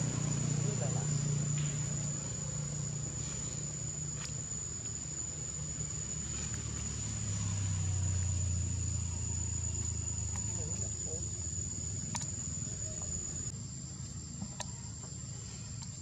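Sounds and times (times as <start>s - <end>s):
high-pitched insect whine: 0.0s - 16.0s.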